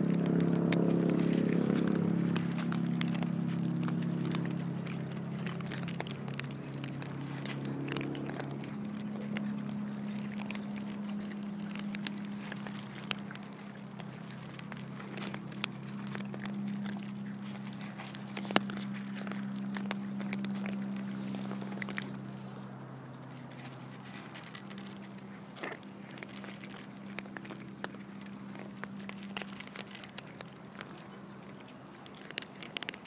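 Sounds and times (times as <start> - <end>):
cats crunching food: 0.0 - 33.0
steady low hum: 0.0 - 33.0.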